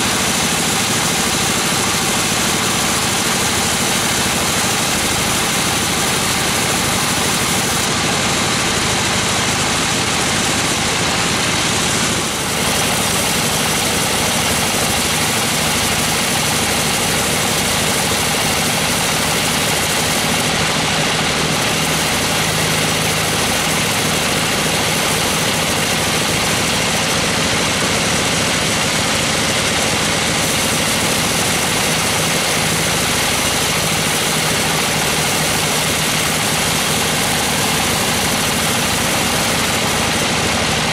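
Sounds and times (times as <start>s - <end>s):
band saw cutting timber: 0.0s - 40.9s.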